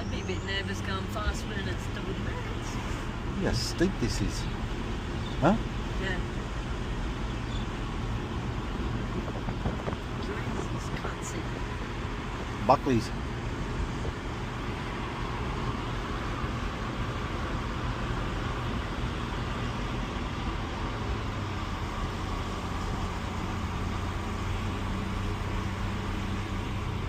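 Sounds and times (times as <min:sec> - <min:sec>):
car engine drone: 0:00.0 - 0:27.0
tyre and road noise: 0:00.0 - 0:27.0.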